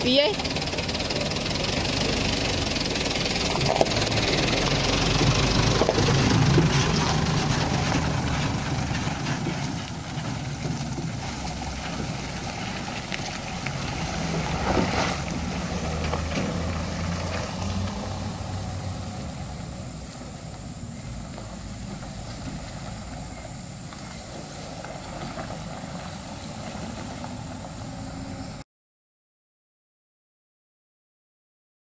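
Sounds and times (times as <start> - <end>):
dump truck diesel engine: 0.0 - 28.6.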